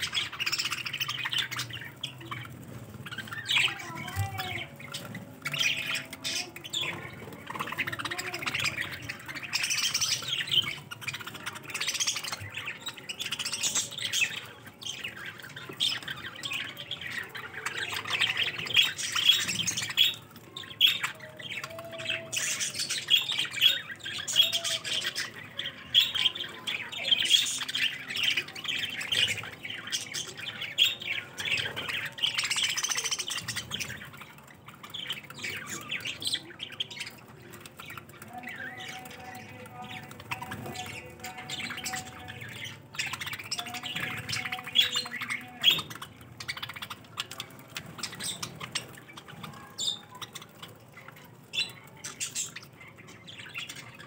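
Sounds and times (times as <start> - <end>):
budgerigars chattering and squawking: 0.0 - 54.0.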